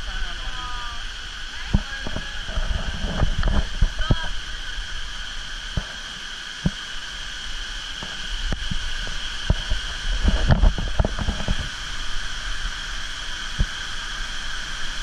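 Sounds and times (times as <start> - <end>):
insects droning: 0.0 - 15.0
rushing water: 0.0 - 15.0.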